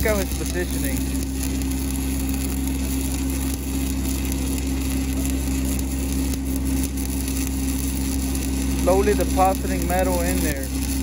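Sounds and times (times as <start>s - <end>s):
welding arc crackling and sizzling: 0.0s - 11.0s.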